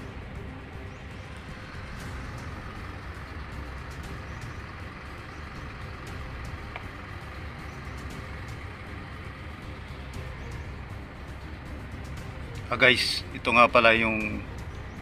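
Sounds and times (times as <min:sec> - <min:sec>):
motor vehicle engine rumbling: 0:00.0 - 0:15.0.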